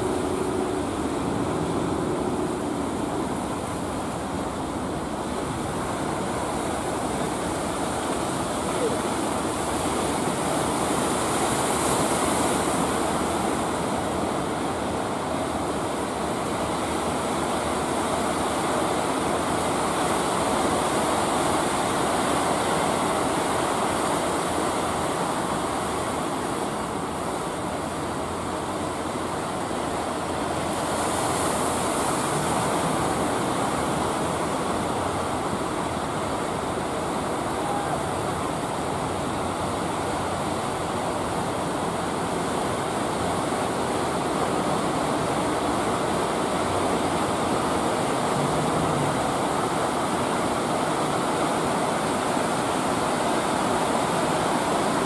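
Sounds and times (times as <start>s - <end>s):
surf breaking and washing in: 0.0s - 55.0s.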